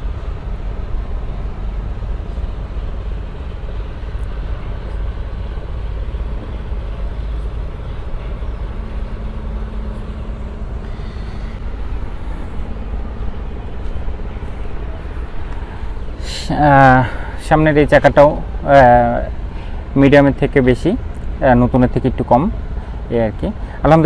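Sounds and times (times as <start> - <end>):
low hum: 0.0 - 23.8
traffic rumble: 0.0 - 24.0.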